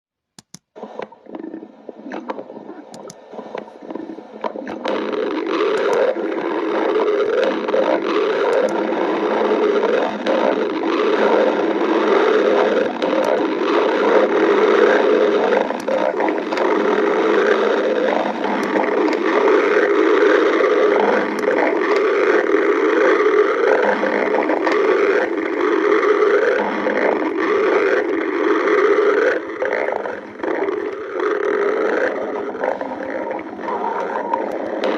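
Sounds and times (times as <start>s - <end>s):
stomach growling: 0.8s - 34.9s.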